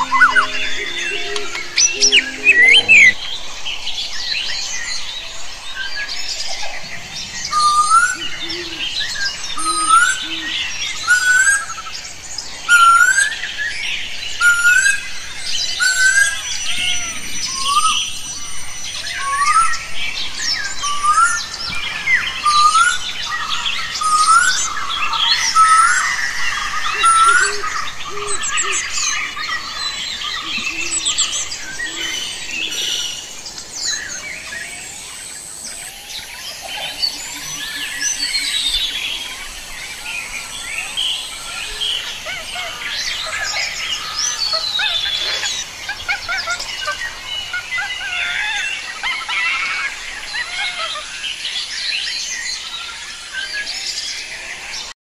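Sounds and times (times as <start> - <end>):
chorus of birds chirping: 0.0 - 3.4, 6.9 - 55.0.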